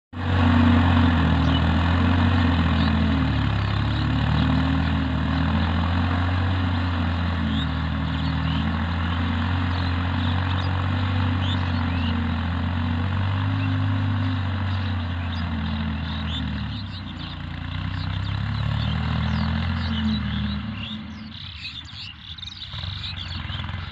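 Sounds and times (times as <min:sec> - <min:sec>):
tractor diesel engine running: 0:00.1 - 0:23.9
small birds chirping: 0:00.2 - 0:23.9.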